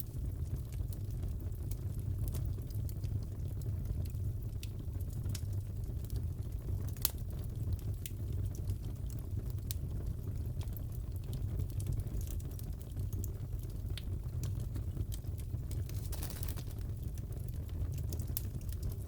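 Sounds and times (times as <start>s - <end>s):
fire popping and crackling: 0.0s - 19.0s
fire rumbling: 0.0s - 19.0s.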